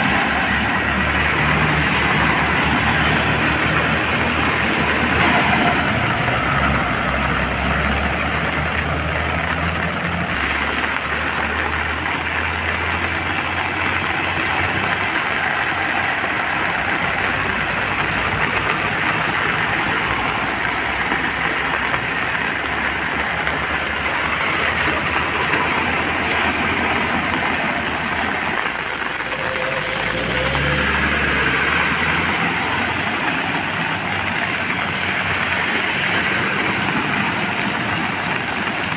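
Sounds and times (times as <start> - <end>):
rain hissing: 0.0 - 38.9
vehicle engines rumbling: 0.0 - 38.9
water splashing: 0.0 - 38.9.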